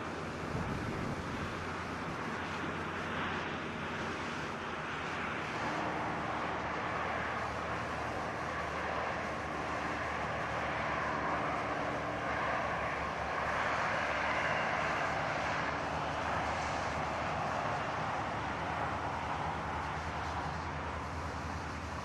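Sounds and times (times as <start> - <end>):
diesel train engine rumble: 0.0 - 22.0.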